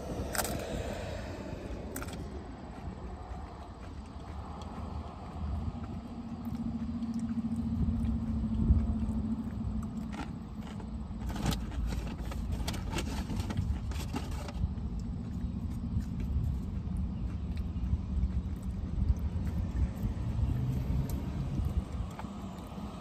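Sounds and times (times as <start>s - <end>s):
vehicle rumble: 0.0s - 23.0s.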